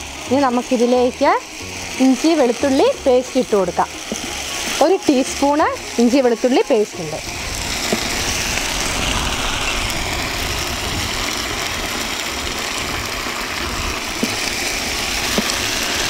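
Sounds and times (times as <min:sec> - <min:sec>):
paste sizzling in hot oil: 0:00.0 - 0:16.0.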